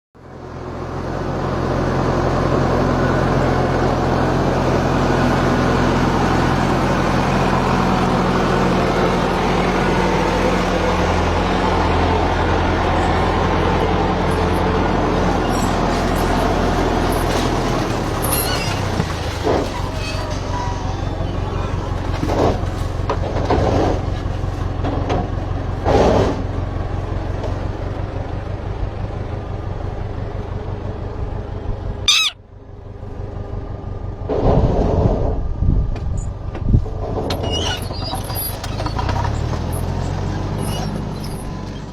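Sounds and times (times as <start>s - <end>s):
heavy vehicle engine idling: 0.2s - 34.3s.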